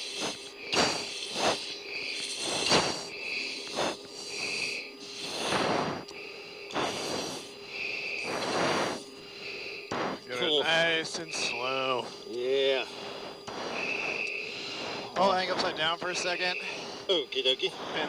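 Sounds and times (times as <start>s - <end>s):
faint cockpit hum: 0.0s - 18.0s
forced breaths through oxygen mask: 0.0s - 18.0s.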